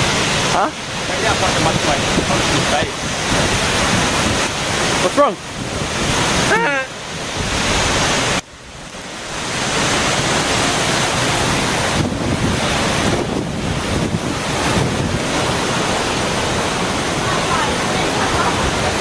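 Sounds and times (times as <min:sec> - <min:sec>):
rushing sea water: 0:00.0 - 0:19.0
wind buffeting microphone: 0:00.0 - 0:19.0.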